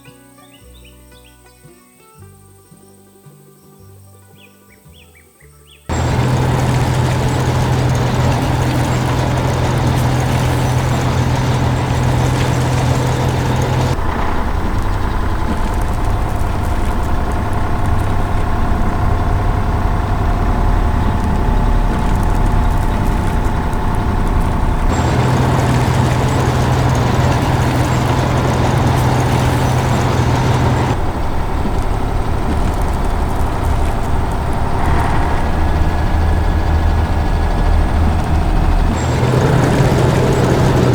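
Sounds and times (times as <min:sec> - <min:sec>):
heavy vehicle engine running: 0:05.9 - 0:40.9.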